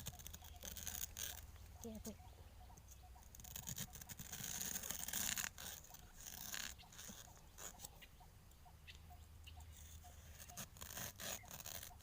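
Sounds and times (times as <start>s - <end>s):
scraping in dry leaves and soil: 0.0s - 2.2s, 2.8s - 8.2s, 9.6s - 12.0s.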